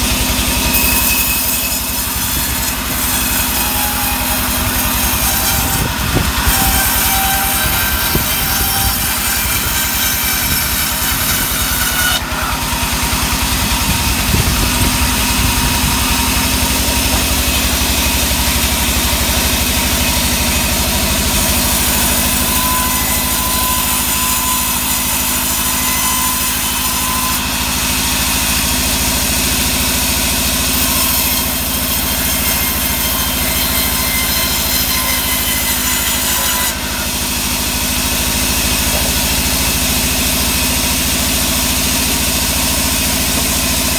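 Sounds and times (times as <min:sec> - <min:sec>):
band sawmill engine running: 0:00.0 - 0:43.9
saw blade cutting timber: 0:00.0 - 0:43.9.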